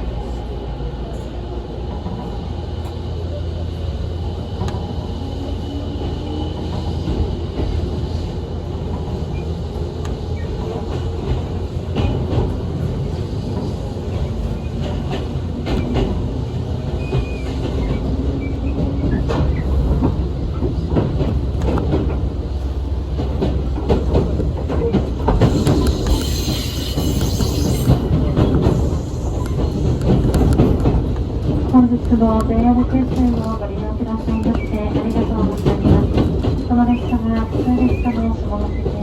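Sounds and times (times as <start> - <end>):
train rumble on board: 0.0 - 39.0.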